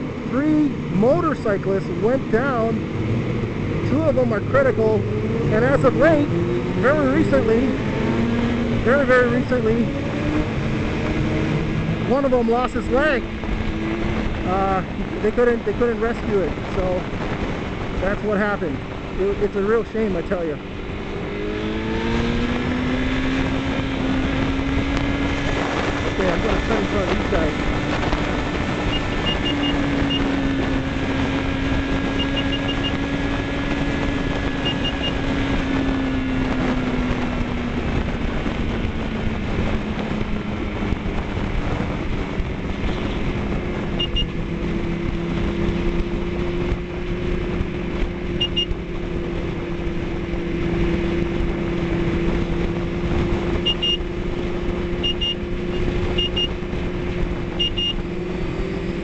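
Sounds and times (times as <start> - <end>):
road and wind noise: 0.0 - 59.0
vehicle engine running: 0.0 - 59.0.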